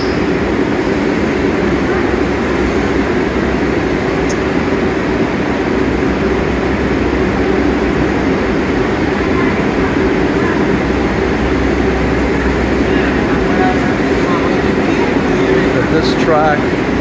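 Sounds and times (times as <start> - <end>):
train air conditioning drone: 0.0 - 17.0.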